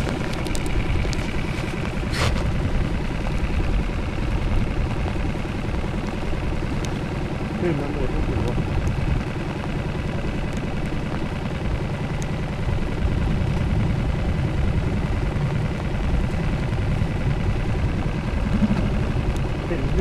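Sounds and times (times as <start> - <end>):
boat motor droning: 0.0 - 20.0.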